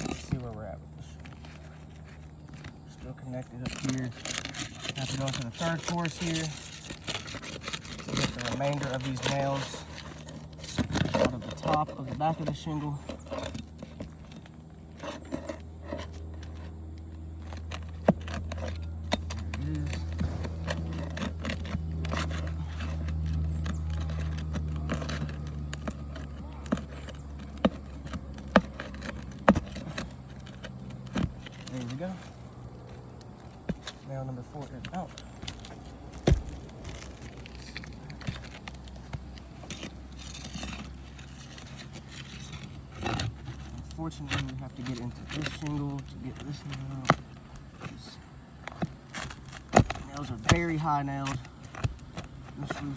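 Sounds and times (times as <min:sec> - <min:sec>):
steady low hum: 0:00.0 - 0:52.9
nail scraping and clicking: 0:01.2 - 0:52.9.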